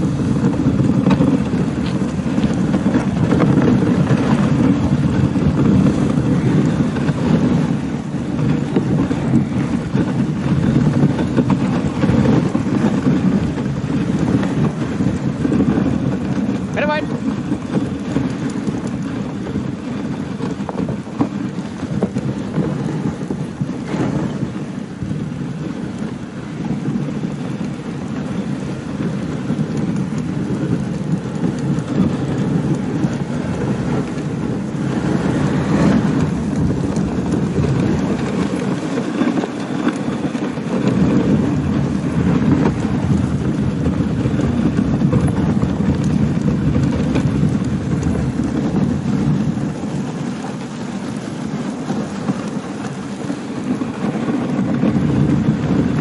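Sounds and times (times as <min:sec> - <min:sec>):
sled runners scraping over snow: 0:00.0 - 0:56.0.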